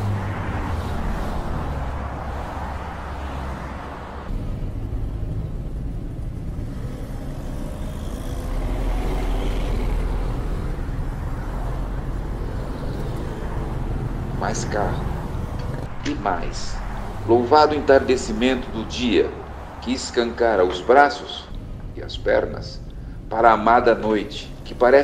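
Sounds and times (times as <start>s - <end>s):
steady rushing noise: 0.0s - 25.0s
street traffic: 0.0s - 25.0s
vehicle engine rumble passing: 0.0s - 25.0s.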